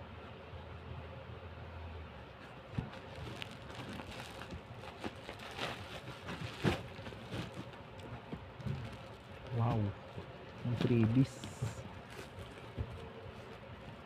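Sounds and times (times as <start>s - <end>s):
wrapping crinkling and rustling: 2.4s - 14.0s.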